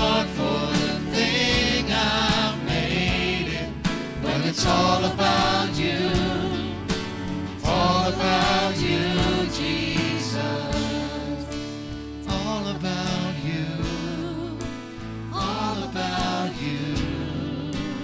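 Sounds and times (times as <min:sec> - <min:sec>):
instrumental accompaniment: 0:00.0 - 0:18.0
vocal group singing worship song: 0:00.0 - 0:18.0.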